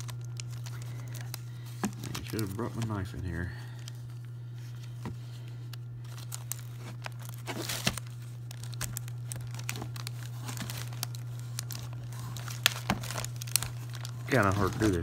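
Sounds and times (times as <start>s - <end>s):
plastic packaging crinkling: 0.0s - 15.0s
plastic tearing: 0.0s - 15.0s.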